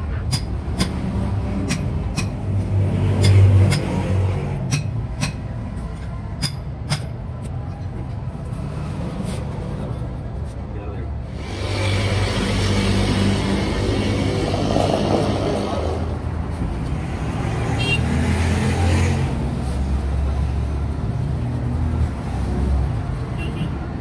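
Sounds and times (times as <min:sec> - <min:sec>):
vehicle engines running: 0:00.0 - 0:24.0.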